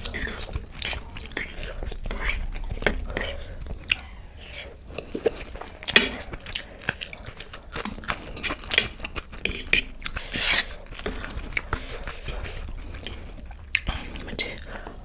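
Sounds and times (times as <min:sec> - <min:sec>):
loud eating noise: 0:00.0 - 0:15.0
wet chewing with clicks: 0:00.0 - 0:15.0.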